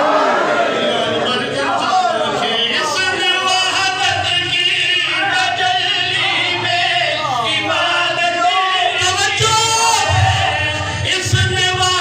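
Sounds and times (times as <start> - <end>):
man chanting into a microphone: 0.9 - 12.0.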